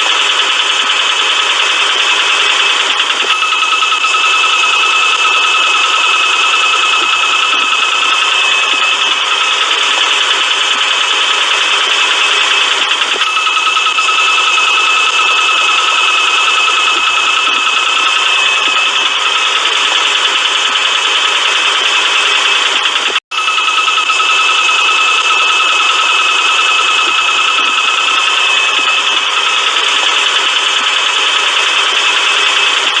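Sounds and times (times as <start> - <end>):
steady high whine: 0.0 - 32.9.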